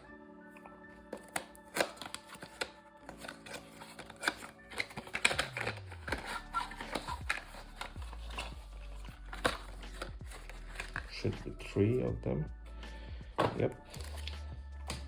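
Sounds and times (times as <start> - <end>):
soft background music: 0.0 - 15.0
box packaging clicks and rustles: 0.6 - 11.3, 13.3 - 15.0.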